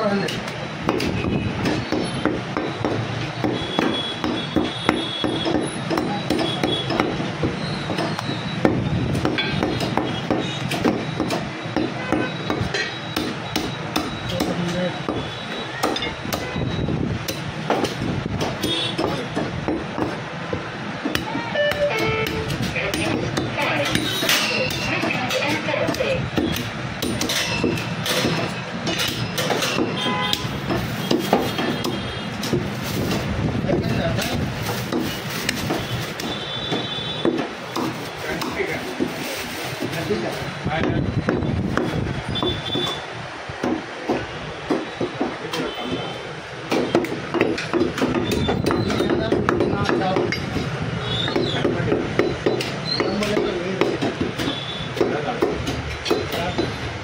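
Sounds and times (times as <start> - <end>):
cleaver chopping meat: 0.2 - 15.2, 17.2 - 20.2, 21.0 - 39.2, 40.8 - 43.0, 43.6 - 45.7, 46.7 - 50.6, 51.3 - 56.7.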